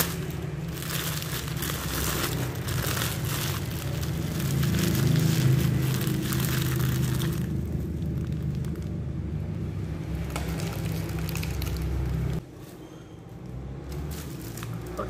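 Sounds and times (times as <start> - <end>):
plastic bags crinkling: 0.0 - 12.4, 13.9 - 15.0.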